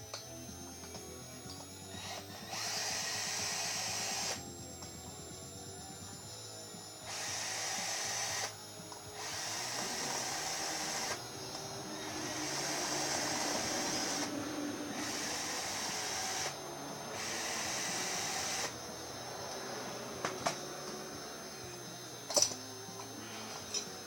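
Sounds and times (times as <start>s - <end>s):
electric drill bursts: 0.0s - 24.0s.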